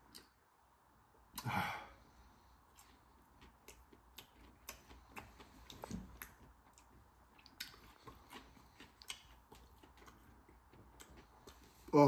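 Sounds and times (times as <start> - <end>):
faint chewing: 1.4 - 12.0.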